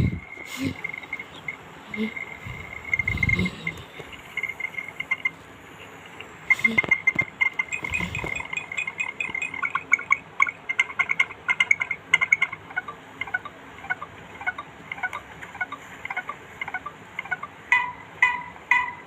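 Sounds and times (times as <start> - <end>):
crickets chirping: 0.0 - 17.4.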